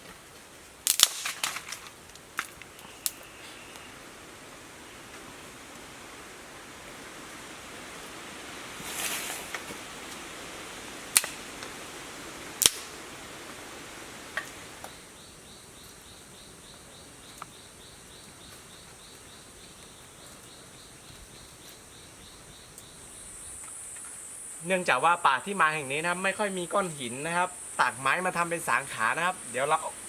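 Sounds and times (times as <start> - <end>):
insect chirping in pulses: 0.8 - 8.7, 9.8 - 30.0.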